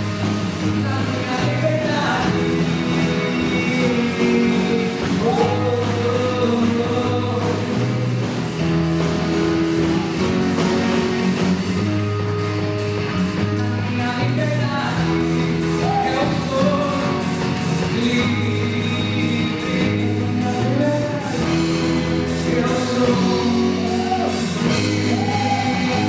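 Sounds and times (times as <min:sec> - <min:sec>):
band playing with singing: 0:00.0 - 0:26.0.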